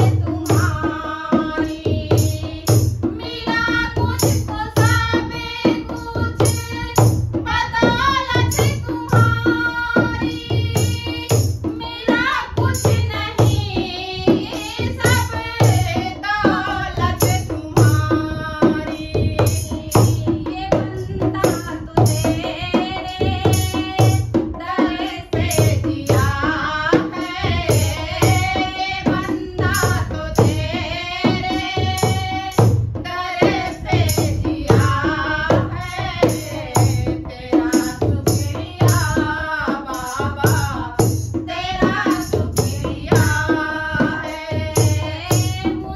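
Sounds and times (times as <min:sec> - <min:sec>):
hand drum beat: 0:00.0 - 0:45.9
women singing devotional song: 0:00.0 - 0:45.9.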